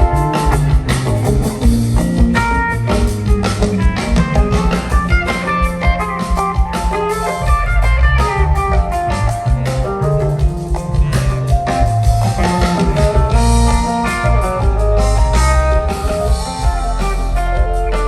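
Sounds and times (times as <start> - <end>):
bass guitar: 0.0 - 18.0
drum kit: 0.0 - 18.0
electric guitar melody: 0.0 - 18.0.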